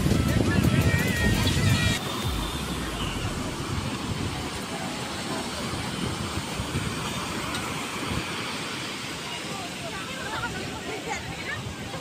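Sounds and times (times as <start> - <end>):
sea surf washing onto beach: 0.0 - 12.0
wind buffeting microphone: 0.0 - 12.0.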